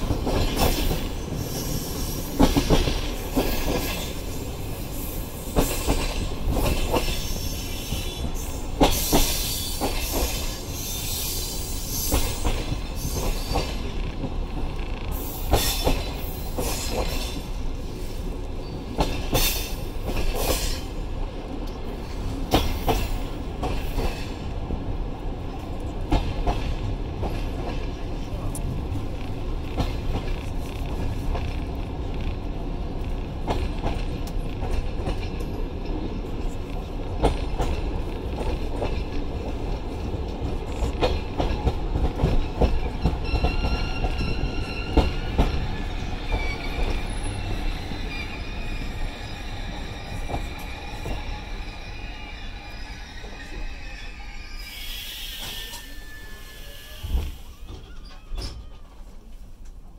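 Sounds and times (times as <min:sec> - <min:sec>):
wheels rumbling on rails: 0:00.0 - 0:54.7.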